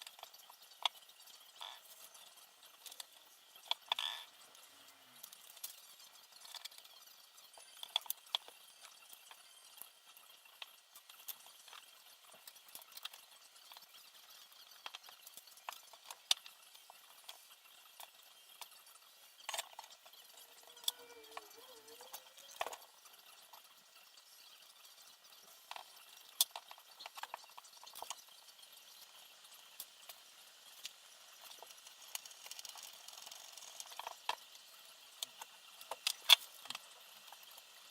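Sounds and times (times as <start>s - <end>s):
small parts and tools clicking: 0.0s - 37.9s.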